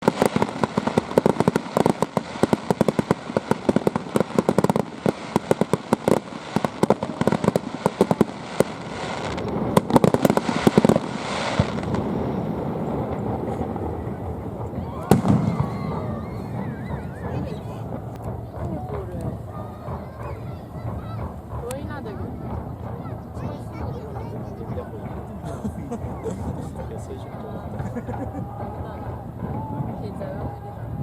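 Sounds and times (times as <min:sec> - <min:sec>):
fireworks bangs: 0:00.0 - 0:31.0
fireworks crackling: 0:00.0 - 0:31.0
lingering rumble: 0:00.0 - 0:31.0.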